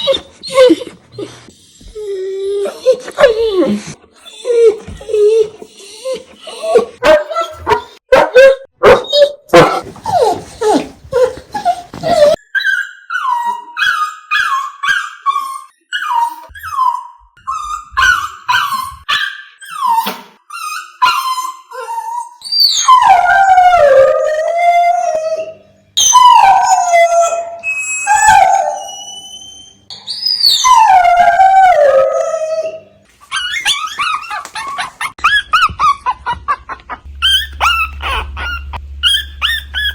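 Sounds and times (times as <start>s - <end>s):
dogs yelping: 0.0s - 9.2s, 9.8s - 39.9s
dogs whining and crying: 0.0s - 39.9s.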